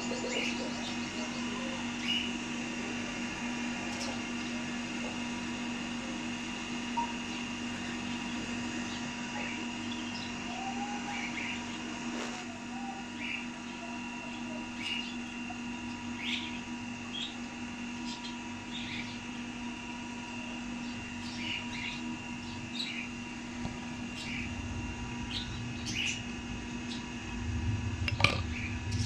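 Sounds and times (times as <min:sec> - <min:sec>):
birds chirping: 0:00.0 - 0:27.5, 0:28.1 - 0:29.0
steady hum: 0:00.0 - 0:29.0.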